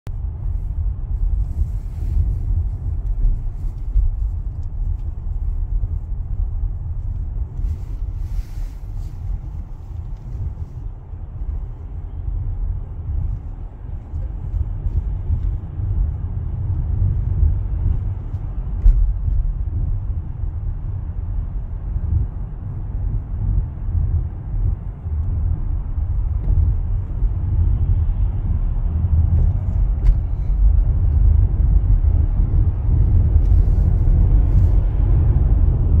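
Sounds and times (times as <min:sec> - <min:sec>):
road and engine rumble in car: 0:00.0 - 0:36.0.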